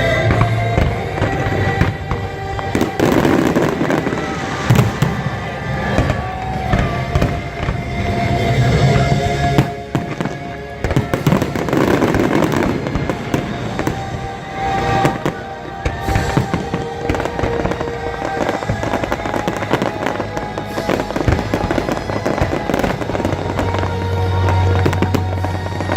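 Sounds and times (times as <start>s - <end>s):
fireworks bursting: 0.0s - 25.9s
orchestral music over loudspeakers: 0.0s - 25.9s.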